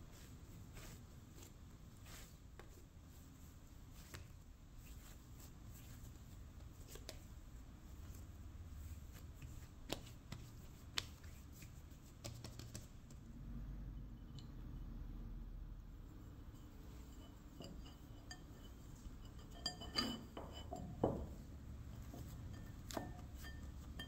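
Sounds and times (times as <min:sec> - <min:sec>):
hands kneading dough: 0:00.0 - 0:13.3, 0:16.1 - 0:24.0.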